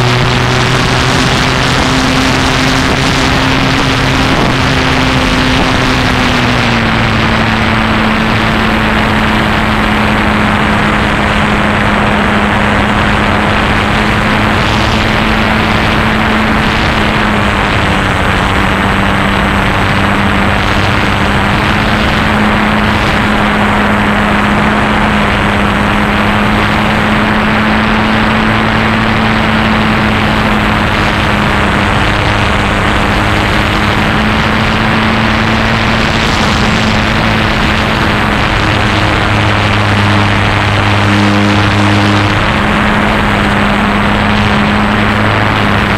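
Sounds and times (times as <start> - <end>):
propeller aircraft engine drone: 0.0 - 45.9
rushing wind noise: 0.0 - 45.9.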